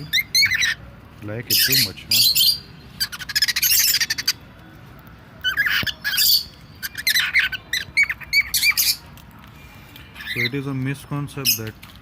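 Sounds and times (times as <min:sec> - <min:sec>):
birds squawking: 0:00.0 - 0:04.6, 0:05.4 - 0:09.1, 0:10.0 - 0:11.8.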